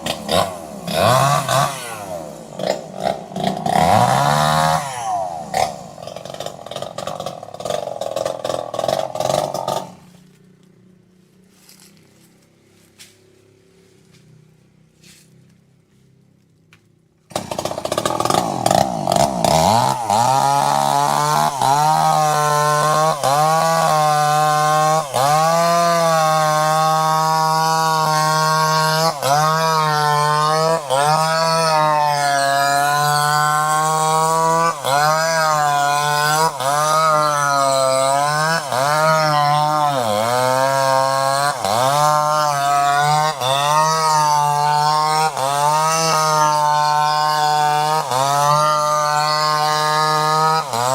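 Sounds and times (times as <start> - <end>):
chainsaw engine at high revs: 0.0 - 16.1, 16.8 - 50.9.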